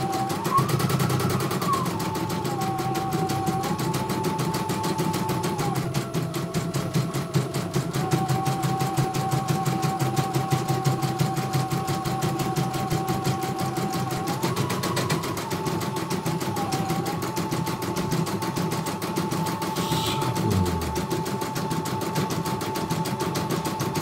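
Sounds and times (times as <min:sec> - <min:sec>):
motor whine: 0:00.0 - 0:22.4.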